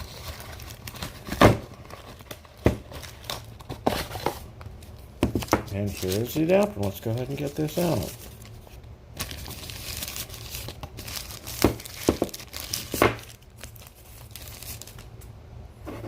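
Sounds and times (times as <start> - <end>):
packaging crinkling and tearing: 0.0 - 15.2.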